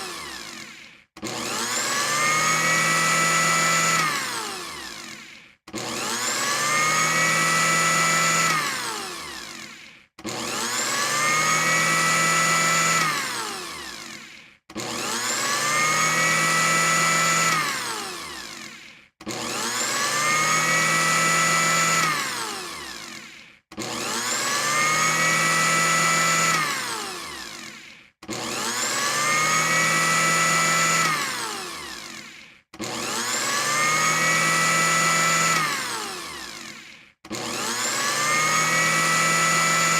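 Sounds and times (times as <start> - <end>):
electric blender motor whine: 0.0 - 39.9.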